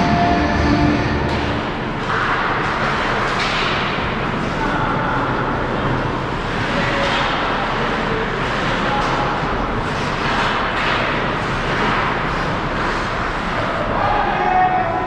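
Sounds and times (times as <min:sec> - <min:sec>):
ice hockey rink game noise: 0:00.0 - 0:15.0.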